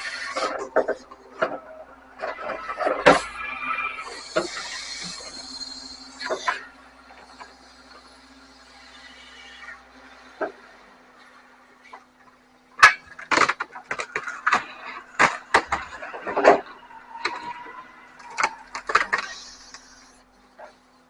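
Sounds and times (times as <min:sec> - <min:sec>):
truck low hum: 0:00.0 - 0:21.0.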